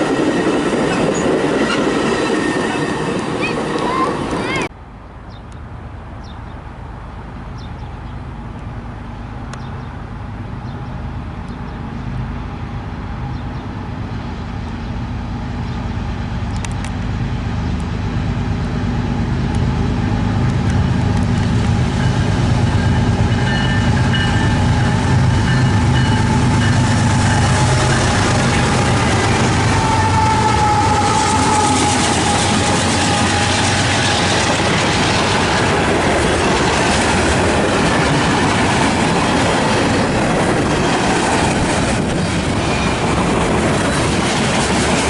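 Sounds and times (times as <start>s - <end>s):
diesel train engine rumble: 0.0s - 45.0s.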